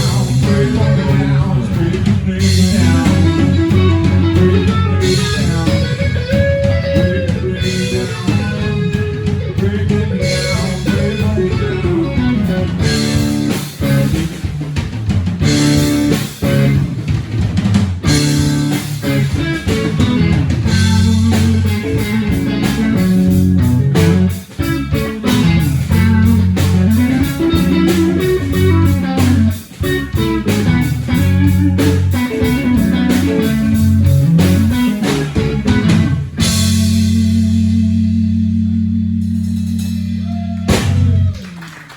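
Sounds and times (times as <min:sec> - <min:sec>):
electric guitar lead: 0:00.0 - 0:41.5
bass guitar: 0:00.0 - 0:41.9
drums: 0:00.0 - 0:41.9.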